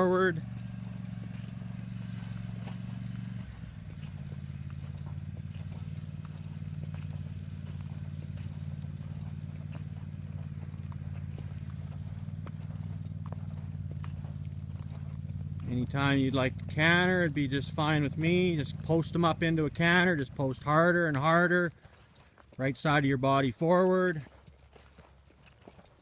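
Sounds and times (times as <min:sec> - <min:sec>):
hoofbeats on dirt: 0:00.0 - 0:26.0.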